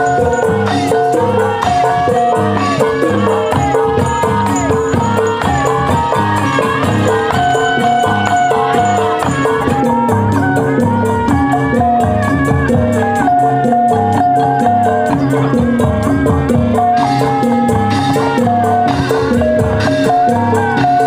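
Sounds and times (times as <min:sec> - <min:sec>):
held-note melody: 0:00.0 - 0:21.0
rattling percussion: 0:00.0 - 0:21.0
steady drumming: 0:00.0 - 0:21.0.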